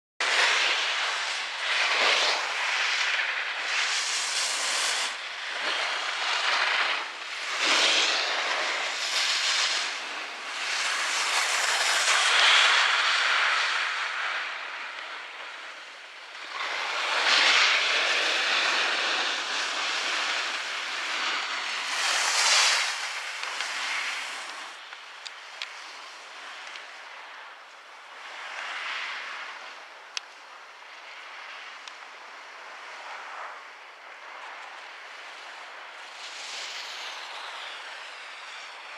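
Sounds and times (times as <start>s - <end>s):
skis scraping on snow: 0.2s - 38.9s.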